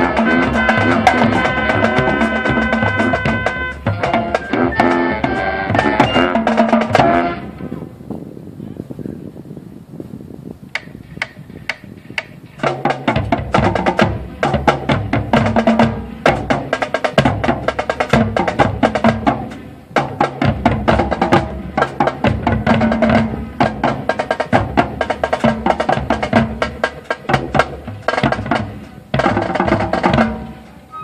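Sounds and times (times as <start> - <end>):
marching band playing: 0.0 - 7.8, 12.6 - 31.0.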